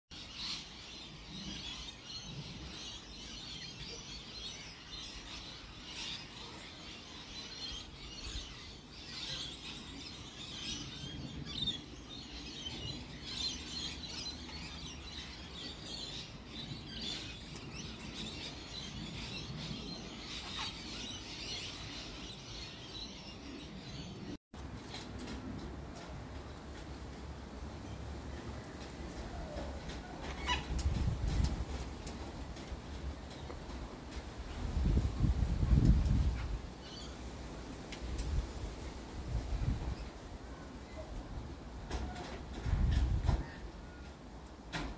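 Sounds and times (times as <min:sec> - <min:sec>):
small birds chirping: 0:00.1 - 0:44.6.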